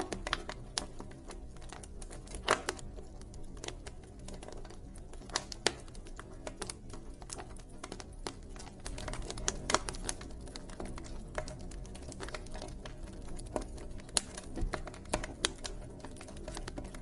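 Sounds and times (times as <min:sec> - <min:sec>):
campfire crackling and popping: 0:00.0 - 0:17.0
low rumble of flame: 0:00.0 - 0:17.0.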